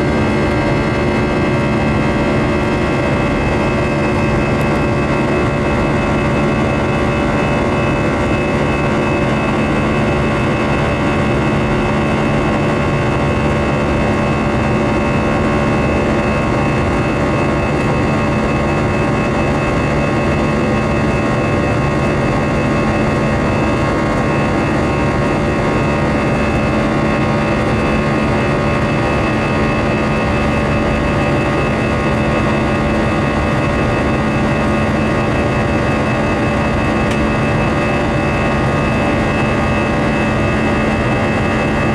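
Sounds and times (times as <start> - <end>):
jet cabin engine rush: 0.0 - 41.9.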